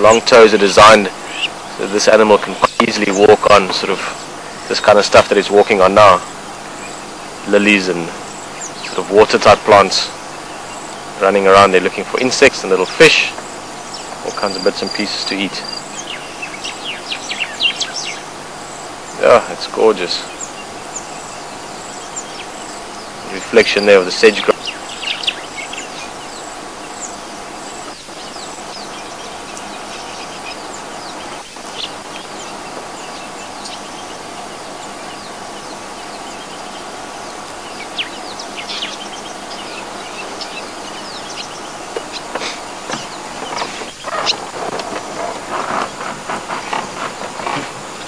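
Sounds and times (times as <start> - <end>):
steady bush hiss: 0.0 - 48.0.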